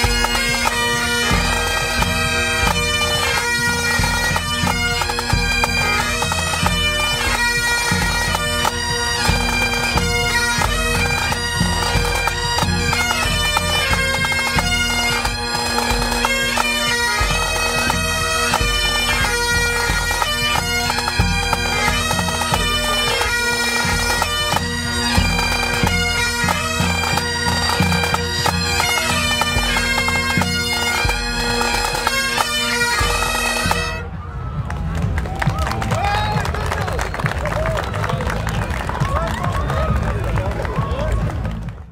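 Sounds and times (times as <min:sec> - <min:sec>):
bagpipes playing a melody: 0:00.0 - 0:35.0
bass and tenor drums beating: 0:00.0 - 0:41.9.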